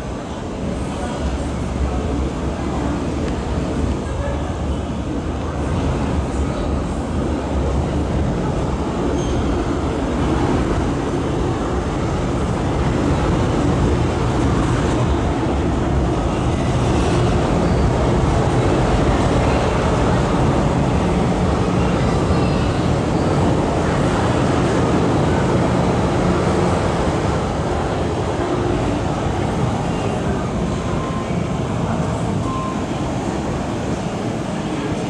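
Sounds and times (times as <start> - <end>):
subway train rumbling past: 0.0 - 35.0.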